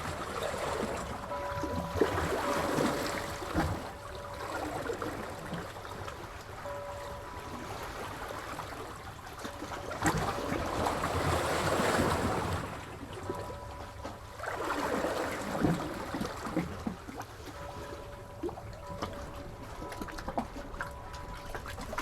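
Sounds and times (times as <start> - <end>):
sea waves washing on shore: 0.0 - 22.0.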